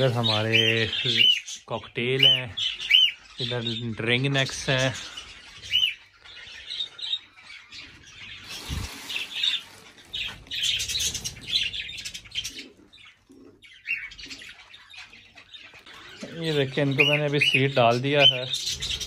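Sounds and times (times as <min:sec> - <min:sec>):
parrots squawking and chirping: 0:00.0 - 0:19.0.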